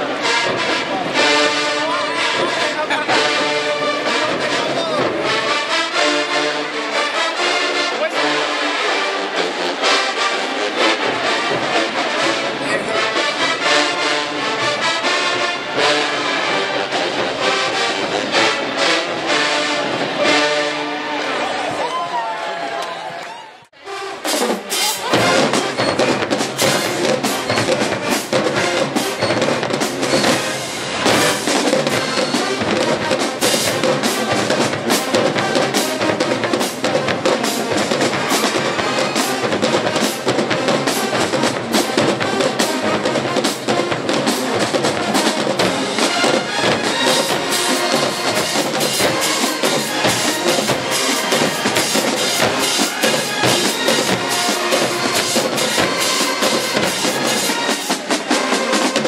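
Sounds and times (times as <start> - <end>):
brass section playing: 0.0 - 21.9, 23.8 - 59.0
drumline beating: 0.0 - 59.0.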